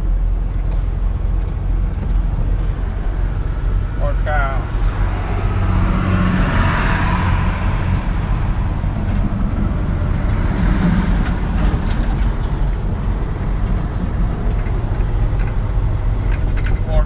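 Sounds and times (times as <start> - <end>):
diesel truck engine humming: 0.0 - 17.0.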